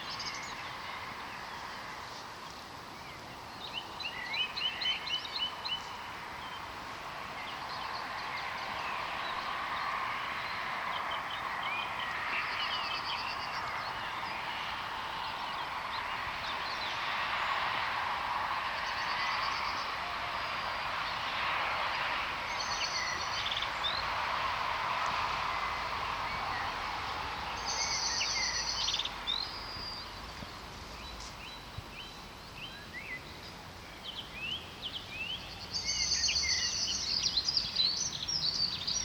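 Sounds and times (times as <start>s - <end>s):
songbirds chirping: 0.0s - 39.0s
steady background hiss: 0.0s - 39.0s.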